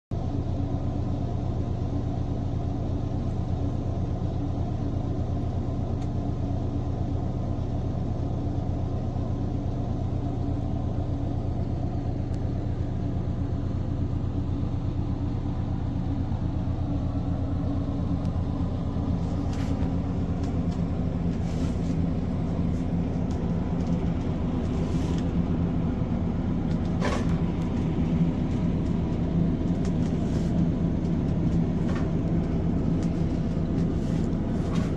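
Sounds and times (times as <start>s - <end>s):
low mechanical droning: 0.2s - 34.9s.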